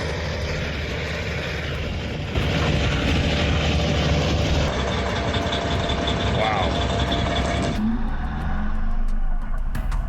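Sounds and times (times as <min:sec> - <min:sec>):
tractor diesel engine under load: 0:00.0 - 0:08.8.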